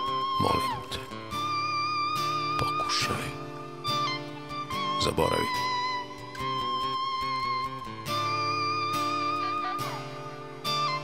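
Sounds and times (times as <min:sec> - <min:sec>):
guitar notes ringing: 0:00.0 - 0:11.0.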